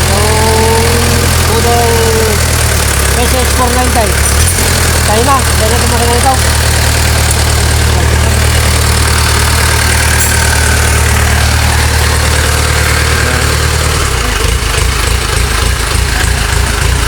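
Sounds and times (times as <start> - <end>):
engine running with low note: 0.0 - 17.0.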